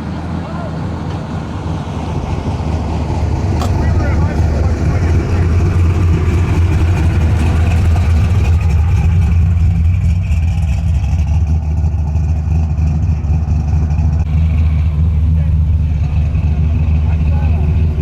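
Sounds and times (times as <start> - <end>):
car engine idling low: 0.0 - 18.0.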